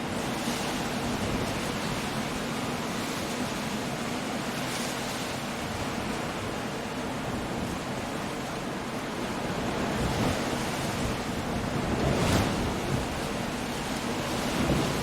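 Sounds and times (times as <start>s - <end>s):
stormy sea surf: 0.0s - 15.0s
wind: 0.0s - 15.0s.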